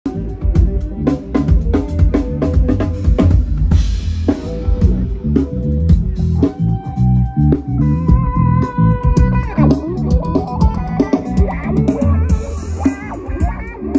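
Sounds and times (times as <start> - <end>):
bass guitar: 0.0 - 13.9
held guitar notes: 0.1 - 13.9.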